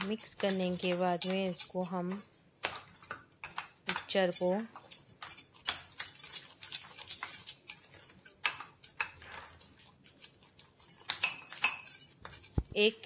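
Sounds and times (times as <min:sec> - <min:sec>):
spoon scraping glass bowl: 0:00.0 - 0:12.9.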